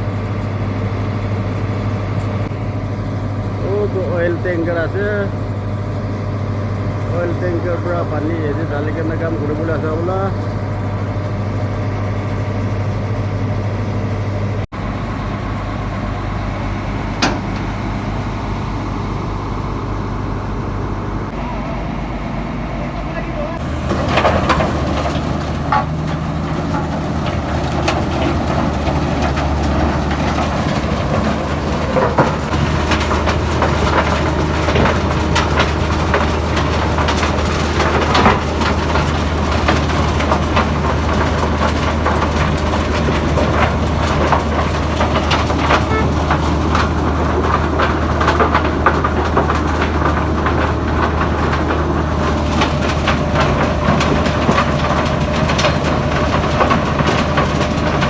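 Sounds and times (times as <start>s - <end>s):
rattling and clanking: 0.0s - 13.4s, 14.8s - 18.5s, 21.2s - 58.0s
diesel machinery engine hum: 0.0s - 58.0s.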